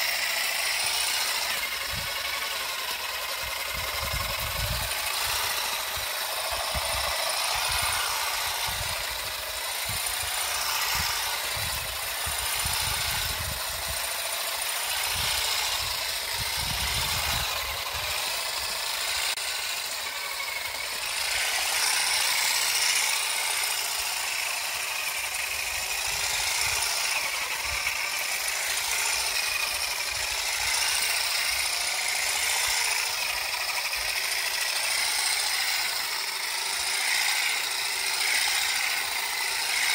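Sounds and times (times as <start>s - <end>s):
electric olive harvester rattling: 0.0s - 39.9s.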